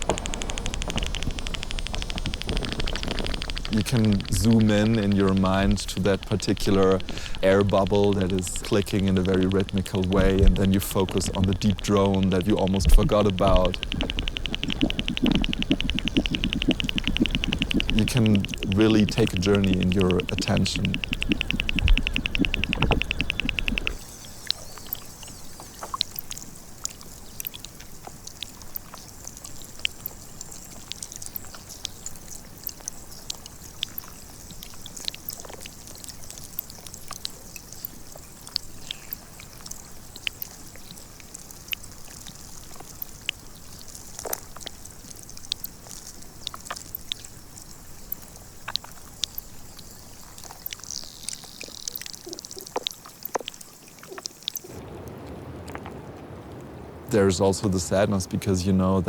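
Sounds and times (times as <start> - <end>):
steady hiss: 0.0 - 55.7, 56.4 - 59.0
air bubbles popping from ice: 0.0 - 56.0.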